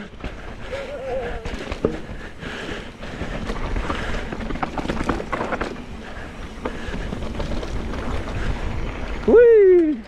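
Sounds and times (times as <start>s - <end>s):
bike rattling and clicking: 0.0s - 10.0s
tyre rumble on dirt: 0.1s - 9.0s.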